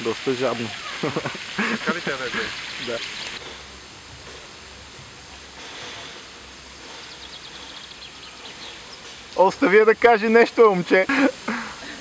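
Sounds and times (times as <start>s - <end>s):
fountain splashing: 0.0s - 12.0s.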